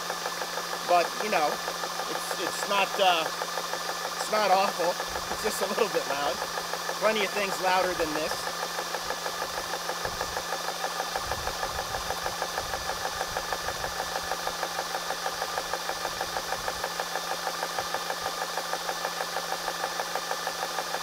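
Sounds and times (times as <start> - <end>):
cooling fans humming: 0.0 - 19.8
air compressor pump pulsing: 0.0 - 21.0.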